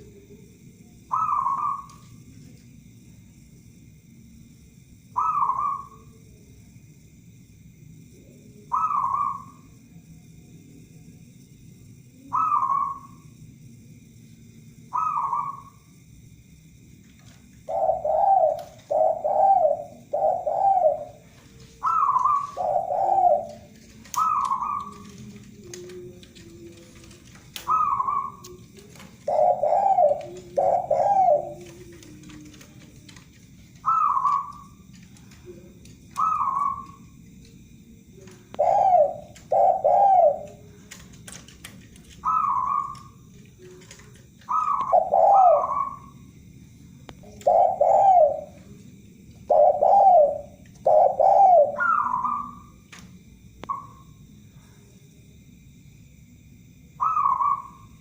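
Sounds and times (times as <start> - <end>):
doves cooing: 0.0 - 3.0, 5.0 - 6.7, 8.1 - 9.8, 12.0 - 13.4, 14.8 - 16.1, 16.9 - 54.3, 57.0 - 58.0.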